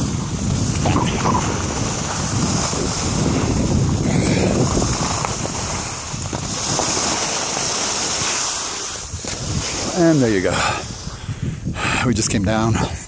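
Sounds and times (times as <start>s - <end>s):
skis sliding over snow: 0.0s - 11.3s
wind buffeting microphone: 0.0s - 13.0s.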